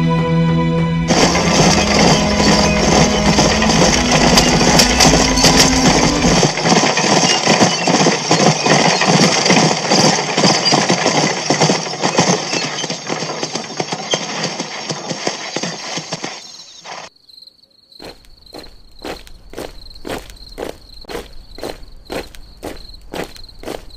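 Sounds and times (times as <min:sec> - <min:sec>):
crickets chirping: 0:01.1 - 0:13.0, 0:15.4 - 0:23.9
galloping horse hoofbeats: 0:01.1 - 0:17.0, 0:18.0 - 0:23.9
slow footsteps: 0:01.1 - 0:17.1, 0:18.0 - 0:23.9.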